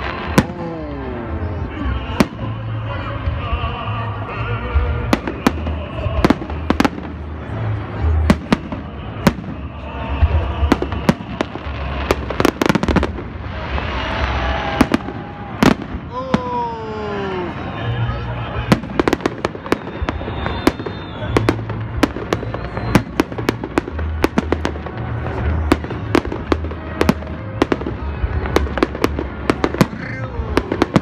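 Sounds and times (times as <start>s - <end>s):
firework bangs: 0.0s - 3.4s, 4.9s - 16.8s, 17.5s - 31.0s.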